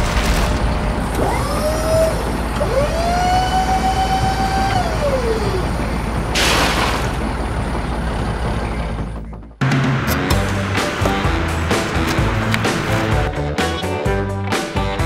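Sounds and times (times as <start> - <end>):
hydraulic whine: 0.0 - 13.2
excavator engine rumble: 0.0 - 14.1.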